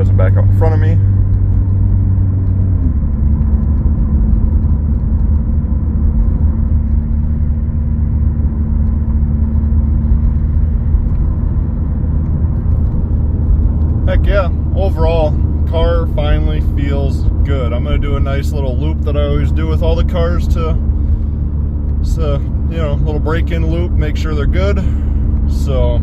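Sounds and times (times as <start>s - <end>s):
engine and tyre rumble in car: 0.0s - 26.0s.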